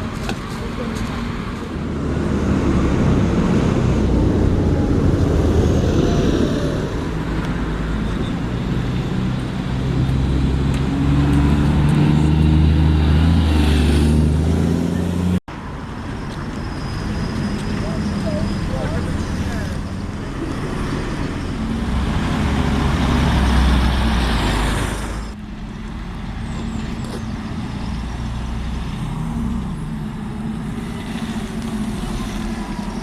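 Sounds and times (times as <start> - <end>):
heavy vehicle engine pulling away: 0.0 - 33.0
street traffic: 0.0 - 33.0.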